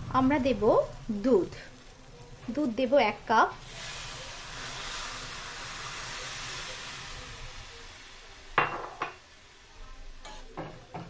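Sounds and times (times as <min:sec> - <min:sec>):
sizzling in hot pan: 0:00.0 - 0:11.0.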